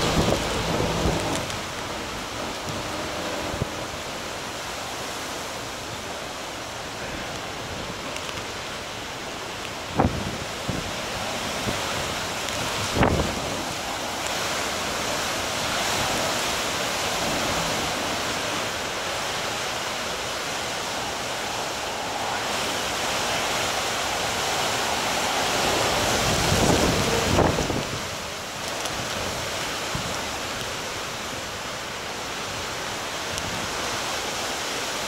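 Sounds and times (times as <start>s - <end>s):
heavy rain: 0.0s - 35.0s
hurricane wind: 0.0s - 35.0s.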